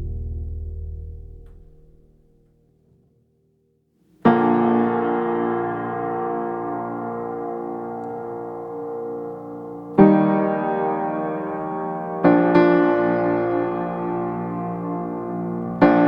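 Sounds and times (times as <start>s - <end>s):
slow piano chords: 0.0s - 2.5s, 4.2s - 16.0s.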